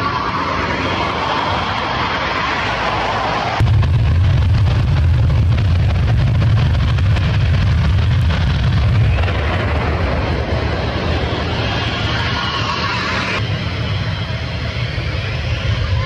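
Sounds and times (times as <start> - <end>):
jet engines roaring with crackle: 0.0 - 16.0.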